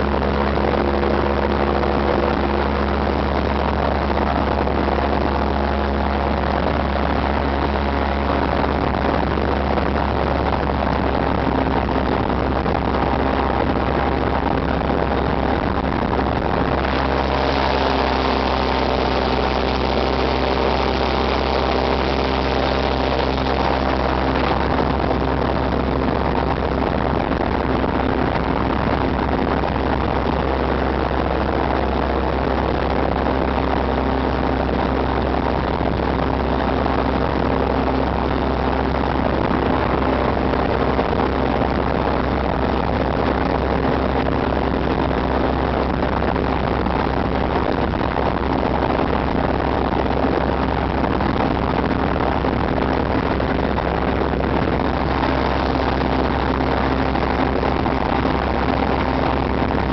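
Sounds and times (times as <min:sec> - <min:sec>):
airboat engine and propeller: 0:00.0 - 0:59.9.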